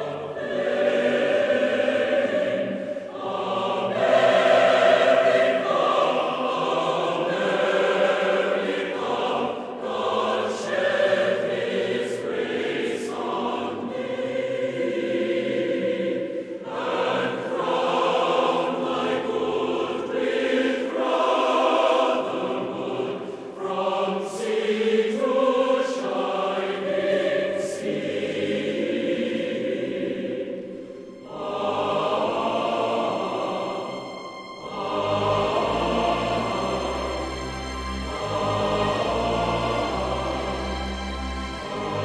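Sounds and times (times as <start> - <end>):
choir singing held notes: 0.0 - 42.0.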